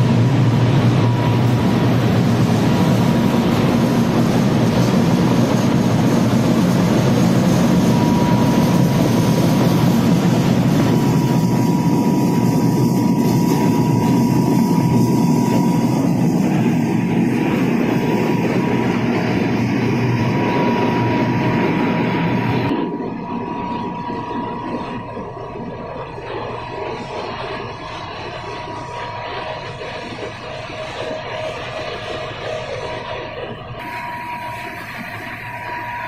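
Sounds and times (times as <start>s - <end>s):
factory machinery din: 0.0s - 36.0s.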